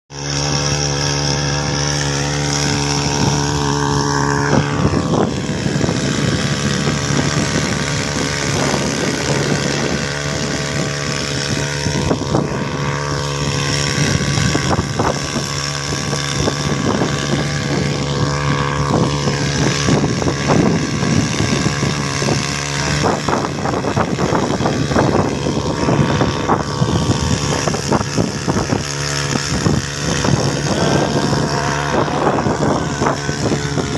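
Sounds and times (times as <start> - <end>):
boat engine running: 0.1 - 33.9.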